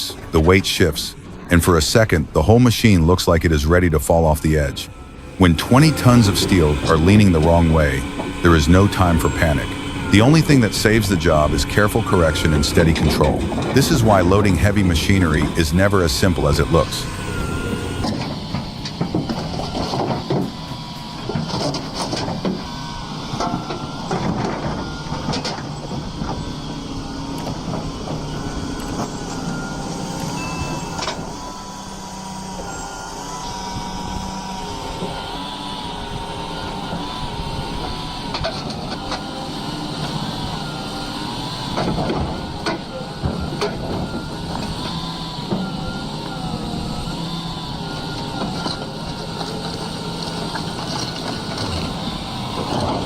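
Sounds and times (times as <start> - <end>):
excavator engine whining: 0.0 - 53.0.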